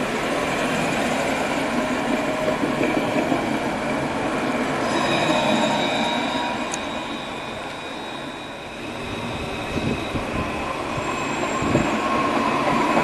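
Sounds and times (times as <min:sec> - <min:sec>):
tram wheels rolling on rails: 0:00.0 - 0:13.0.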